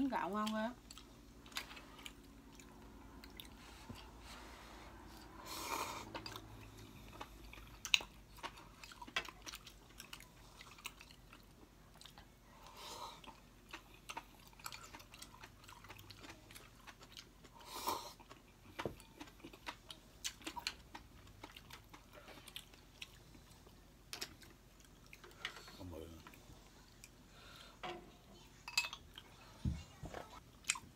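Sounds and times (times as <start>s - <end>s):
chewing and mouth sounds: 0.4s - 4.2s, 5.1s - 27.2s, 30.3s - 30.9s.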